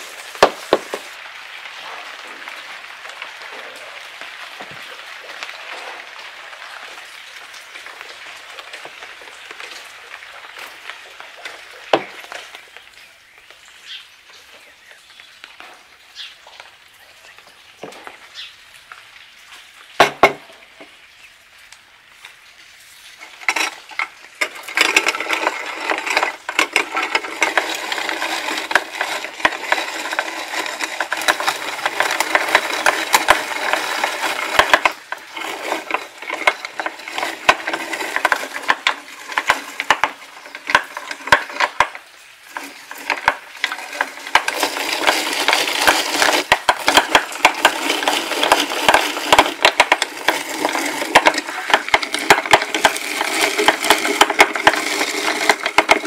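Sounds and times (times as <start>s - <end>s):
drum grater crunching nuts: 0.0s - 14.0s, 23.2s - 56.0s.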